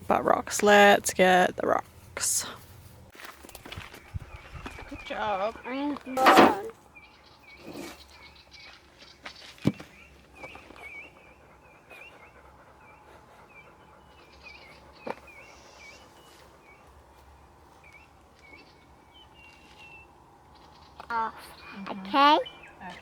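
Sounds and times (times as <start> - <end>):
birds chirping faintly: 0.2 - 23.0.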